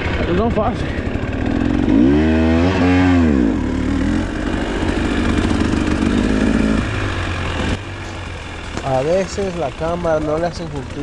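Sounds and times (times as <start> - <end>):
dirt bike engine revving: 0.9 - 11.0.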